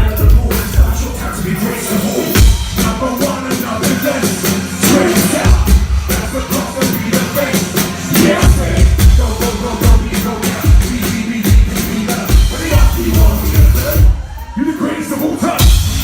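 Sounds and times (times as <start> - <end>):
electronic concert music: 0.0 - 16.0.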